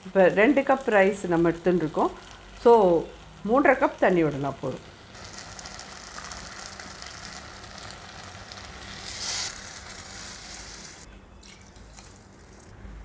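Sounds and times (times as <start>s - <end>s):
rice sizzling in ghee: 0.0s - 11.1s.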